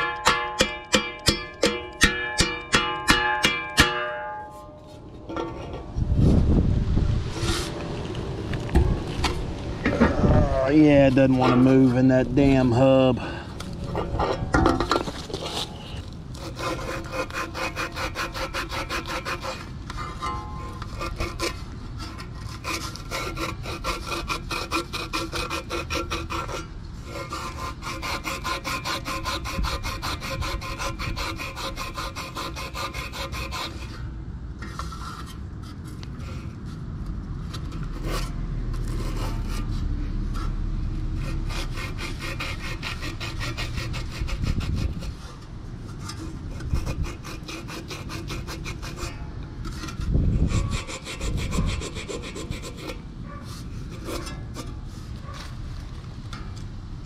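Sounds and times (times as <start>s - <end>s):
metal scraping on metal shaft: 0.0s - 6.2s, 9.8s - 13.2s, 13.8s - 36.6s, 41.2s - 55.5s.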